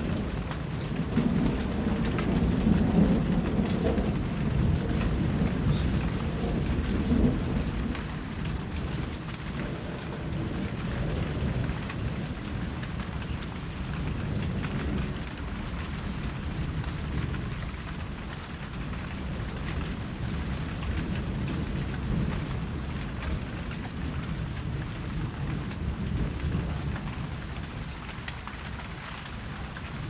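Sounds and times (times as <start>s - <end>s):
rain falling: 0.0s - 30.0s
rolling thunder: 0.0s - 30.0s.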